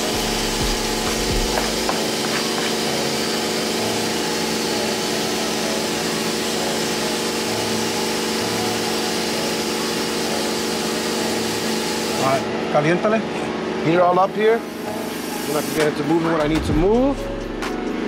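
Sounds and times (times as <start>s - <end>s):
electric fan motor droning: 0.0s - 18.0s.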